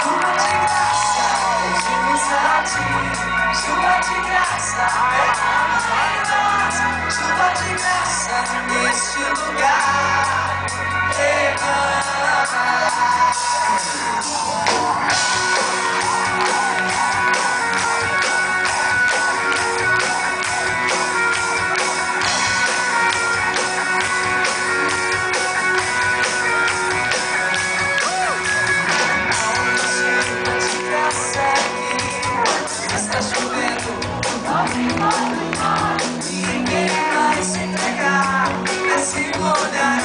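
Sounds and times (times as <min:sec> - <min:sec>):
drums keeping a steady beat: 0:00.0 - 0:40.0
live band music through speakers: 0:00.0 - 0:40.0.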